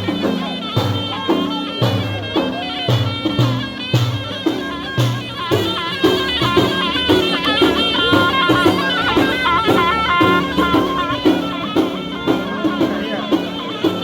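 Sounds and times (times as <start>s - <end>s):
double-reed shawm melody: 0.0s - 14.0s
frame drum beat: 0.0s - 14.0s.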